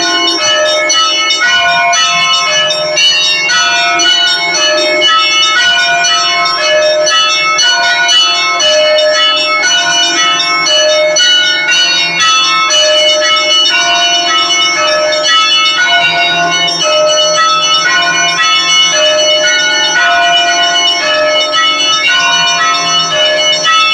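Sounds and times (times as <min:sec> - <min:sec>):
hum of large bells: 0:00.0 - 0:23.9
small bells pealing quickly: 0:00.0 - 0:23.9.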